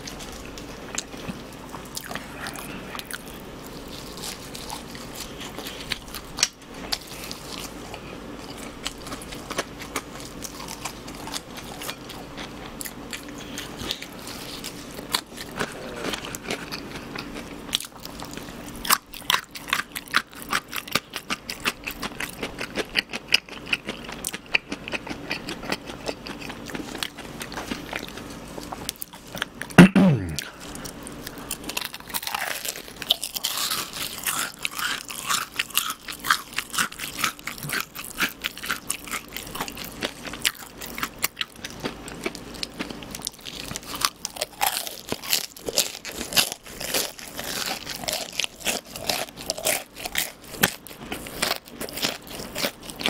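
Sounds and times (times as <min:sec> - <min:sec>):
chewing crispy fried chicken: 0:00.0 - 0:53.0.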